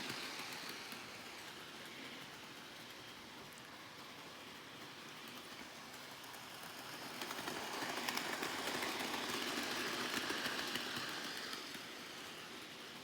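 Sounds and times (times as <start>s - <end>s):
model train motor running: 0.0s - 13.0s.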